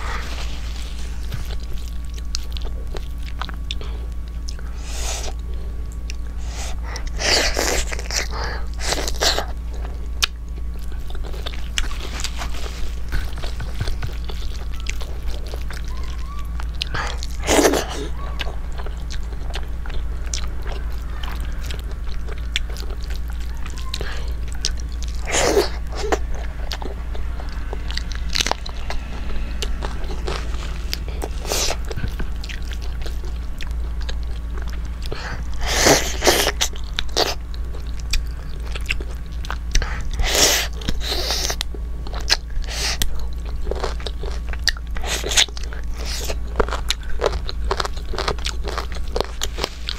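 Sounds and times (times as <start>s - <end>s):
low hum: 0.0s - 49.9s
person chewing food: 0.0s - 49.9s.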